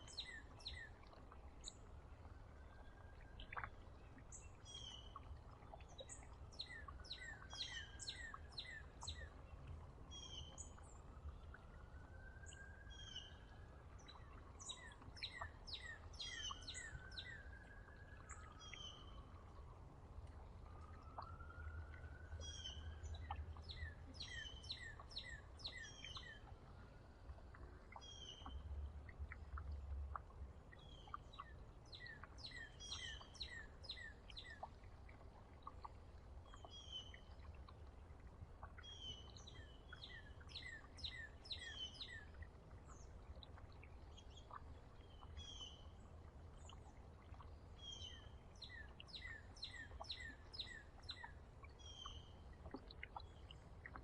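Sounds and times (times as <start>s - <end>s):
small songbirds chirping: 0.0s - 19.7s, 20.5s - 54.0s
faint low rumble: 0.0s - 54.0s.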